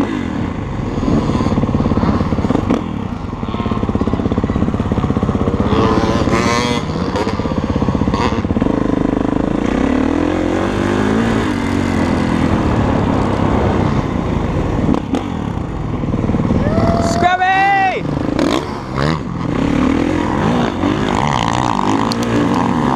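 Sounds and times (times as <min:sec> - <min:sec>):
dirt bike engine running hard: 0:00.0 - 0:22.9.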